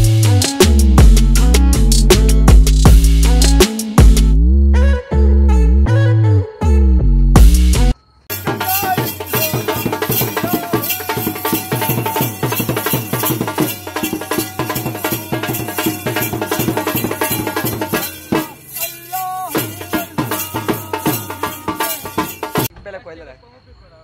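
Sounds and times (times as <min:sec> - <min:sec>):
music with rattling shaker beat: 0:00.0 - 0:04.4, 0:07.4 - 0:22.7.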